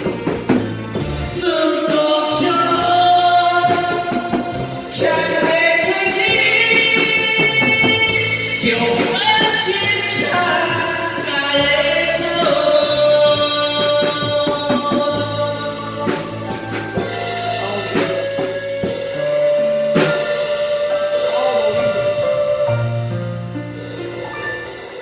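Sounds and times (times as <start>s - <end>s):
live band with keyboard: 0.0s - 25.0s.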